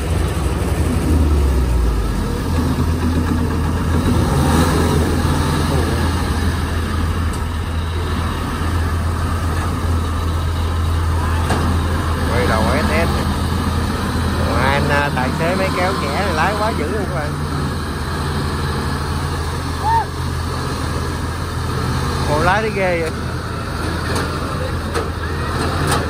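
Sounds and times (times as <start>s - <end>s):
tracked carrier engine running: 0.0s - 26.0s.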